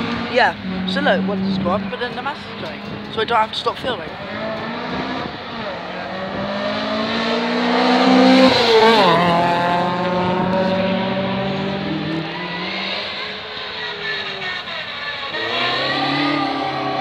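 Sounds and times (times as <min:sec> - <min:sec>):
race cars passing at full throttle: 0:00.0 - 0:17.0.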